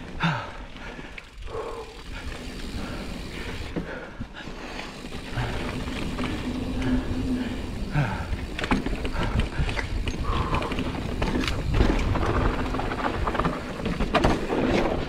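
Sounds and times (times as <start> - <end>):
bike tyres rumbling on dirt: 0.0 - 15.0
bike rattling over rocks: 0.8 - 3.8, 4.6 - 15.0.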